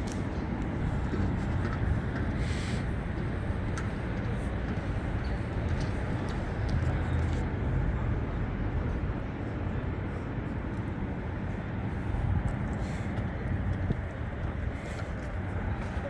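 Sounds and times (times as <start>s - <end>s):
low urban rumble: 0.0s - 16.0s.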